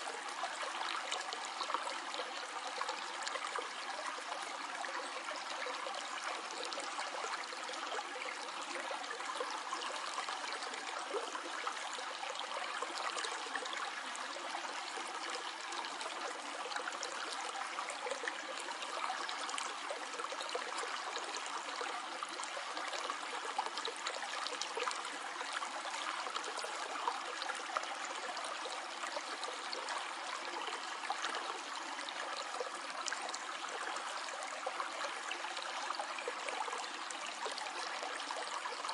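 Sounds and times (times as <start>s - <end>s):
shallow stream trickling: 0.0s - 38.9s.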